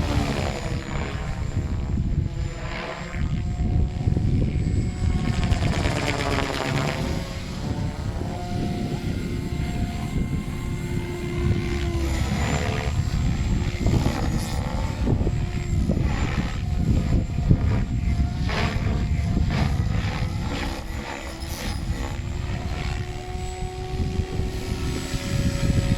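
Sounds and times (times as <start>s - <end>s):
rc helicopter rotor whine: 0.0s - 25.9s
wind rumble on microphone: 0.0s - 25.9s.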